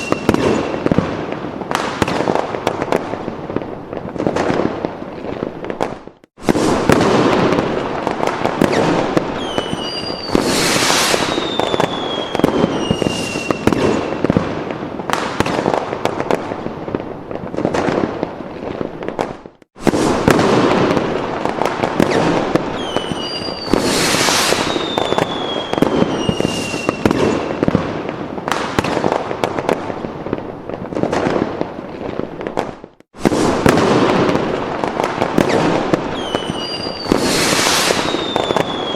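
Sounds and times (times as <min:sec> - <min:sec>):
whistling rockets falling in pitch: 0:00.0 - 0:16.6, 0:19.2 - 0:29.9, 0:32.6 - 0:38.9
fireworks bangs and pops: 0:00.0 - 0:38.9.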